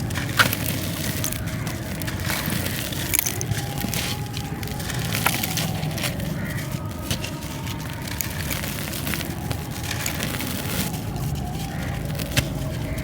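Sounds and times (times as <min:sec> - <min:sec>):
gritty crunching of crumbling cement: 0:00.0 - 0:13.0
pieces snapping: 0:00.0 - 0:13.0.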